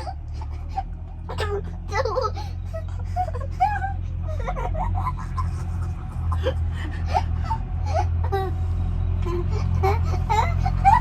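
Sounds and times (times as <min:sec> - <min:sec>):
steady low hum: 0:00.0 - 0:11.0
whimpering and wailing cries: 0:00.0 - 0:11.0.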